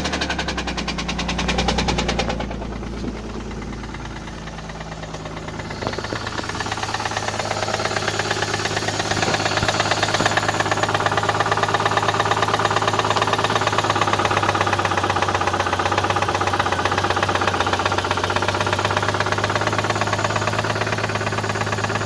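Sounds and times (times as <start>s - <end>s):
engine rod knocking: 0.0s - 22.0s.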